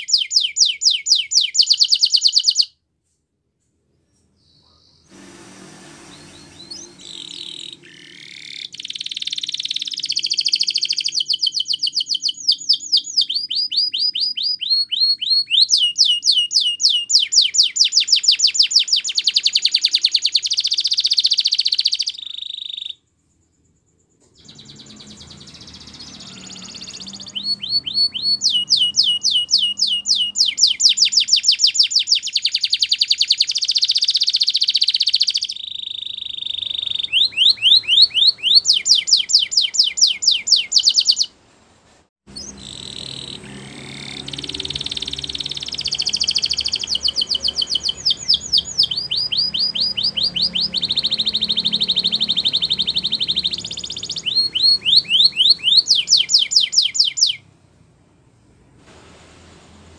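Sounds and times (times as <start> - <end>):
canary singing rolling trills: 0.0 - 2.7, 3.9 - 41.4, 42.3 - 57.5.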